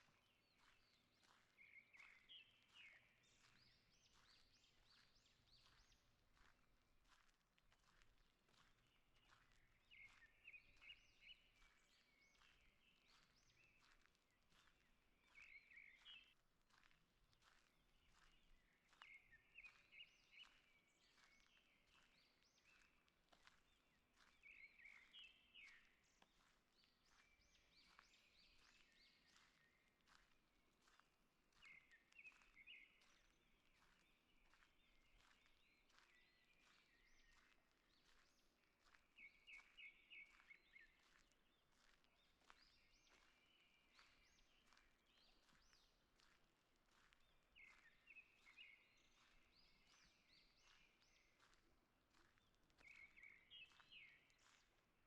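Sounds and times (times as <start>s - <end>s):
faint songbird song: 0.0s - 55.0s
soft footsteps on forest path: 0.0s - 55.0s.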